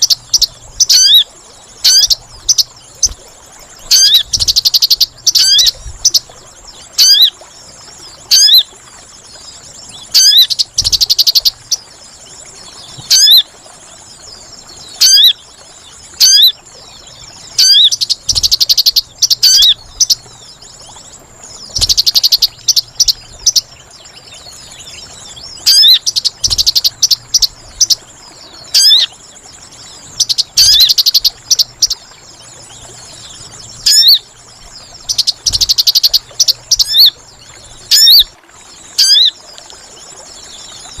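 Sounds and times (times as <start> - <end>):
bird call chirps and twittering: 0.0 - 8.7, 9.3 - 41.0.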